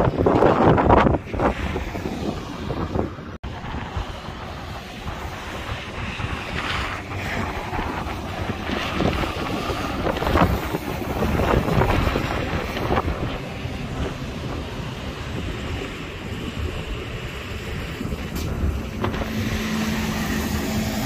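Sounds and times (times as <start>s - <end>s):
highway traffic passing: 0.0s - 21.0s
wind buffeting microphone: 0.0s - 21.0s
lorry passing: 4.1s - 21.0s.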